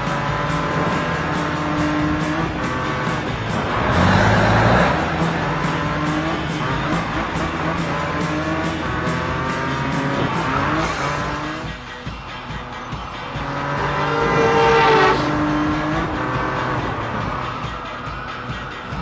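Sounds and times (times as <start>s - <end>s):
cartoon race car engine revving: 0.0s - 11.8s, 13.4s - 17.8s
background music with beat: 0.0s - 19.0s.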